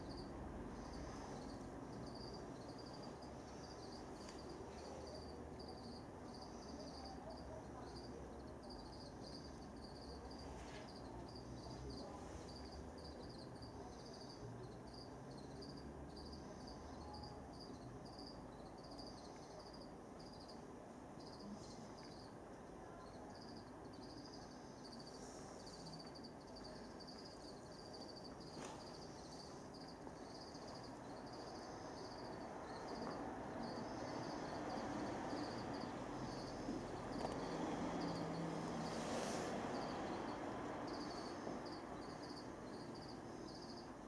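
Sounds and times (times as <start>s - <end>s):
crickets chirping: 0.0s - 44.0s
murmur of room noise: 0.0s - 44.0s.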